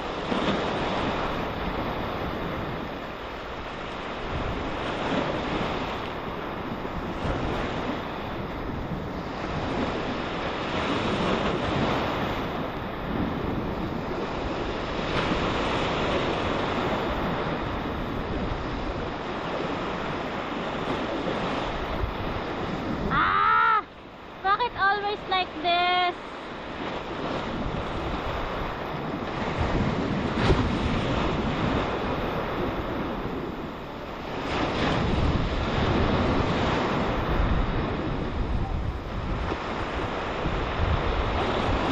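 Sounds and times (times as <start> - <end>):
waves breaking on rocky shore: 0.0 - 41.9.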